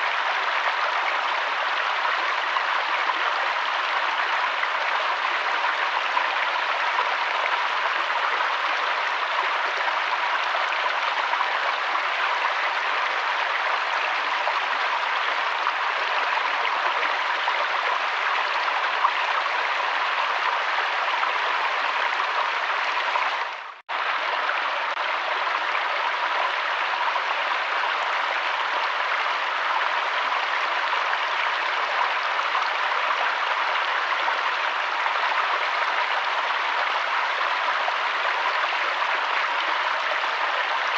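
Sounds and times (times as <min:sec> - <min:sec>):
flowing river water: 0:00.0 - 0:40.9.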